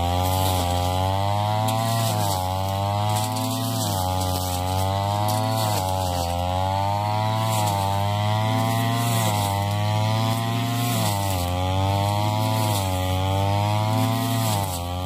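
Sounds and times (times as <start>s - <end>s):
brush cutter engine cutting grass: 0.0s - 15.0s.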